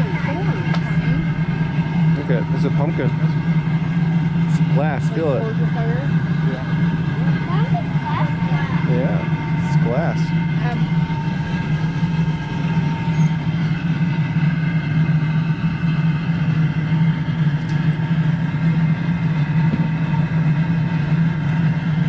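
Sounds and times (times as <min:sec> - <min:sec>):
mechanical drone: 0:00.0 - 0:22.0.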